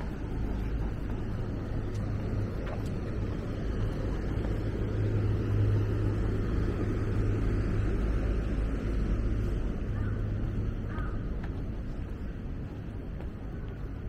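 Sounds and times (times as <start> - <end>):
street traffic rushing: 0.0 - 14.0
vehicle engine low hum: 0.0 - 14.0.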